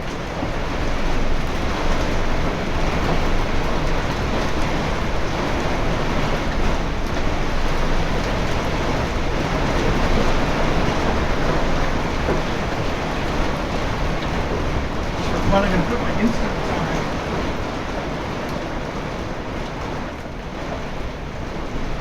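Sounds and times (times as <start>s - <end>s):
heavy rain: 0.0s - 22.0s
strong storm wind: 0.0s - 22.0s.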